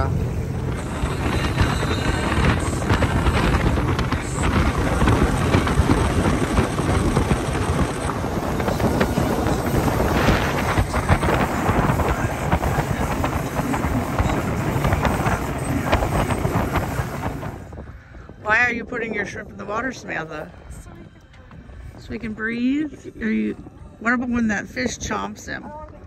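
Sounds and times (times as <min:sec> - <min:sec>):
motorboat running: 0:00.0 - 0:26.0
wind buffeting microphone: 0:00.0 - 0:26.0.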